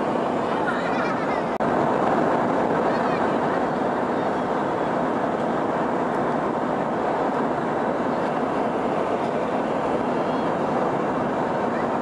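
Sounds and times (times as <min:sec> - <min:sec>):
airliner cabin engine and air rush: 0:00.0 - 0:12.0.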